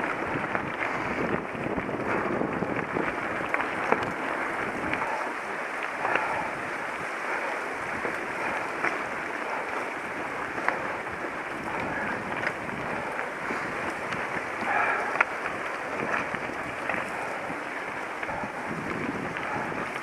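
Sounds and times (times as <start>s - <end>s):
bike clicks and rattles: 0.0s - 20.0s
tyre and wind noise: 0.0s - 20.0s.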